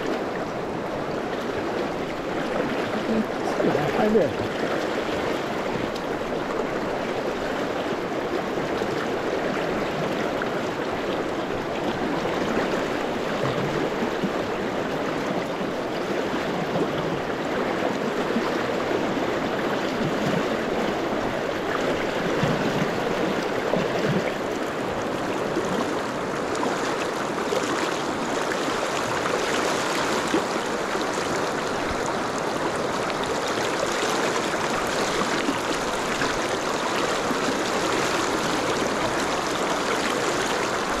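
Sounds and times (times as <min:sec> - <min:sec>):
fast river water rushing: 0:00.0 - 0:41.0.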